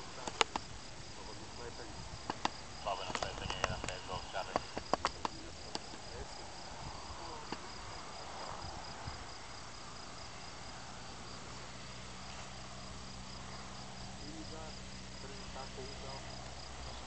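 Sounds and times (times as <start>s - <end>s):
insects chirping: 0.0s - 17.0s
wind hiss: 0.0s - 17.0s.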